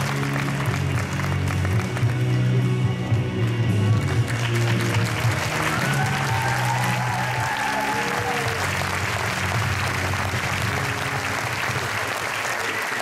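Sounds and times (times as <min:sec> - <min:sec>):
audience applauding: 0:00.0 - 0:02.5, 0:03.4 - 0:13.0
music playing: 0:00.0 - 0:13.0.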